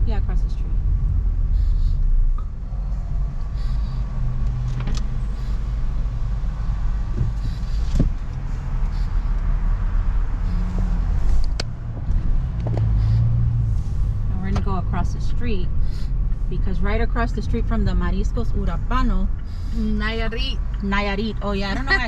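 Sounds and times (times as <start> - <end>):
engine and road rumble: 0.0 - 22.0.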